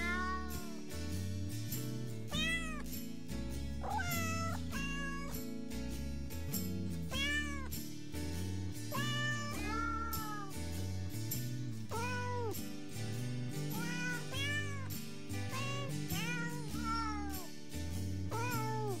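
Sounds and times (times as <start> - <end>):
novelty music with cat meows: 0.0 - 19.0.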